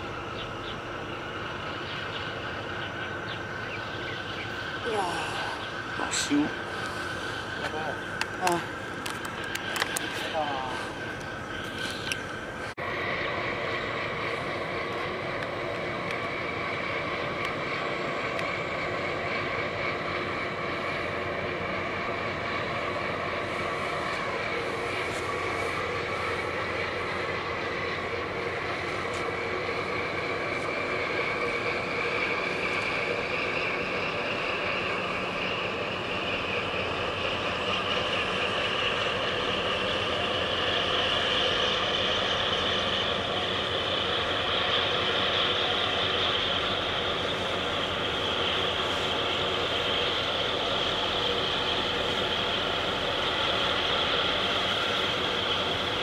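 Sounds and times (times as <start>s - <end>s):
rising mechanical whine: 0.0s - 56.0s
ship engines droning: 0.0s - 56.0s.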